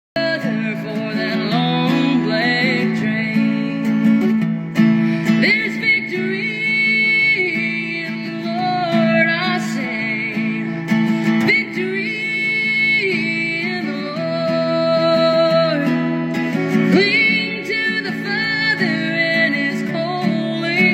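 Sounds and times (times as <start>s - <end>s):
person singing: 0.0s - 4.5s, 5.2s - 20.9s
acoustic guitar: 0.0s - 20.9s.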